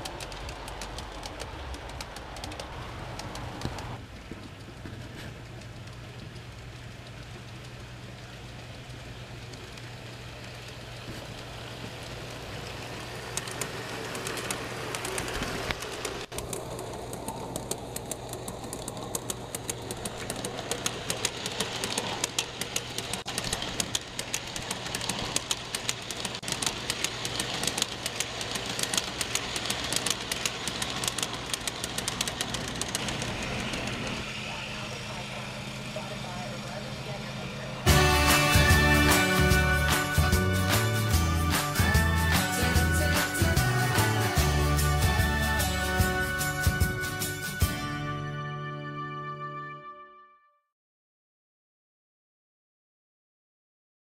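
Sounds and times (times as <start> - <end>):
model train wheels clicking: 0.0 - 46.0
steady low hum: 0.0 - 47.3.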